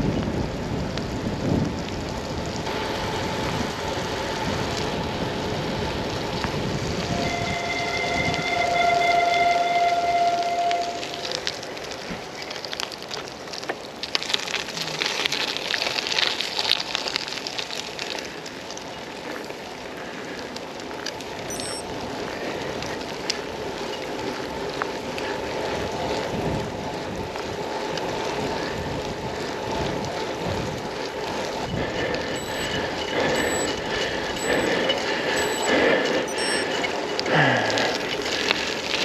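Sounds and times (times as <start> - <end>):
rain pattering: 0.0 - 39.0
wind and tyres on wet road: 0.0 - 39.0.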